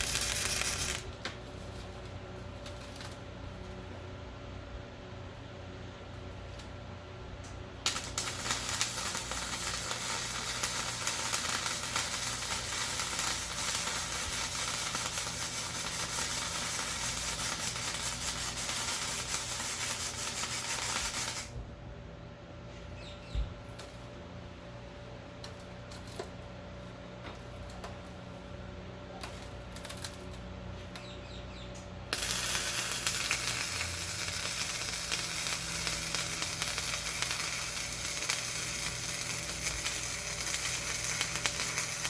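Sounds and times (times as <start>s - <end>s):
arc welding crackling sizzle: 0.0s - 4.2s, 6.1s - 21.6s, 23.6s - 24.2s, 25.4s - 26.5s, 27.3s - 31.2s, 31.8s - 42.0s.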